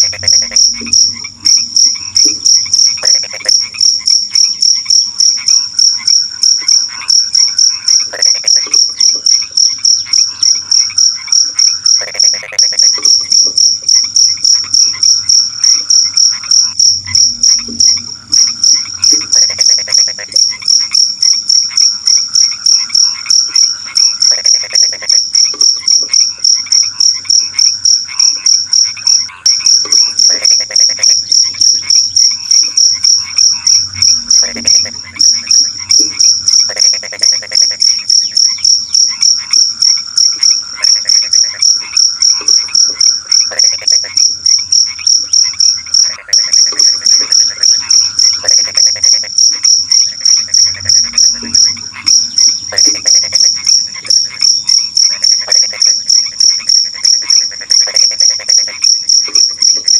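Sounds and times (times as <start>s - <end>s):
cricket chirping: 0.0s - 59.9s
frogs croaking: 0.0s - 59.9s.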